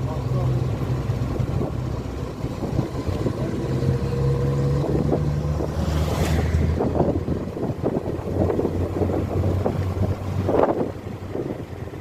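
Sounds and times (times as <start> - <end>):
engine running steadily: 0.0 - 12.0
wind noise on microphone: 1.3 - 12.0.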